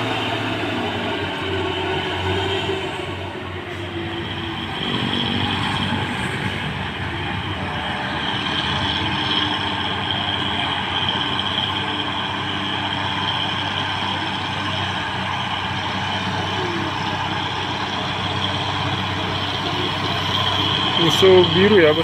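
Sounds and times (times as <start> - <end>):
diesel truck engine under load: 0.0 - 22.0
steady high tone: 0.0 - 22.0.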